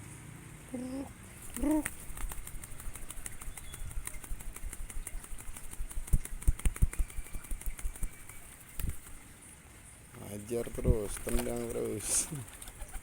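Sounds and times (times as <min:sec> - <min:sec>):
bird wings flapping: 0:01.4 - 0:09.4, 0:10.5 - 0:13.0.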